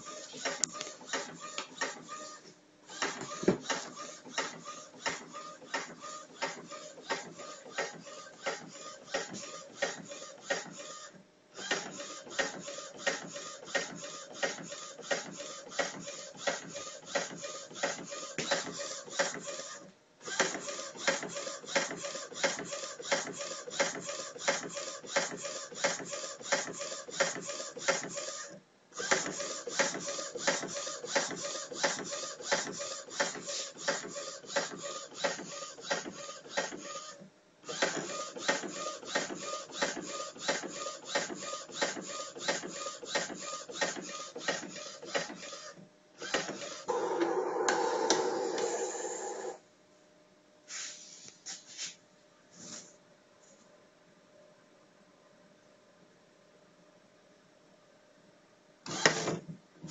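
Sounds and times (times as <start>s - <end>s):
printer carriage whirring and clicking: 0.0s - 2.3s, 2.9s - 49.6s.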